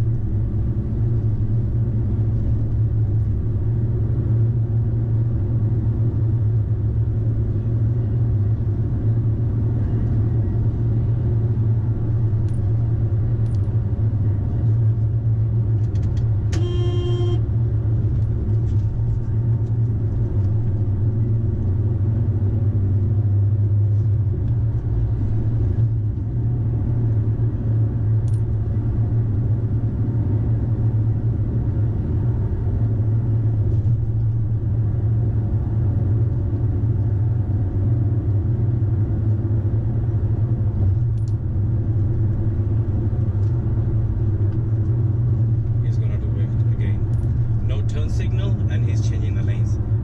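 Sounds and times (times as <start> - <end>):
car road and engine drone: 0.0 - 50.0.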